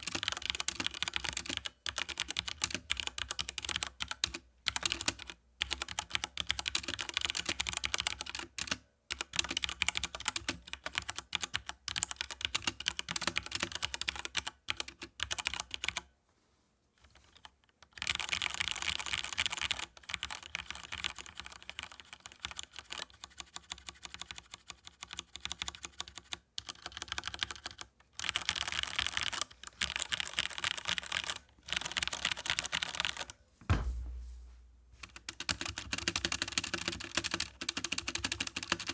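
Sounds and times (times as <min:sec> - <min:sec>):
mechanical keyboard typing: 0:00.0 - 0:16.0, 0:17.3 - 0:33.3, 0:35.0 - 0:38.9.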